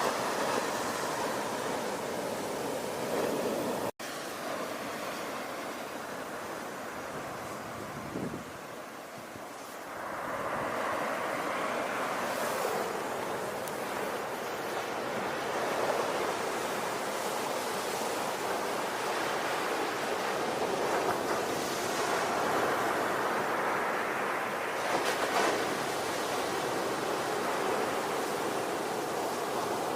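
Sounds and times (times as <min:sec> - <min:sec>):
ocean waves washing in: 0:00.0 - 0:29.9.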